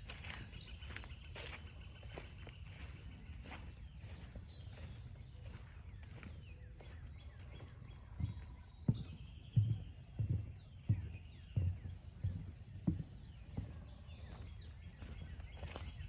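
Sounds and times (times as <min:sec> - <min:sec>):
footsteps on forest trail: 0:00.0 - 0:16.0.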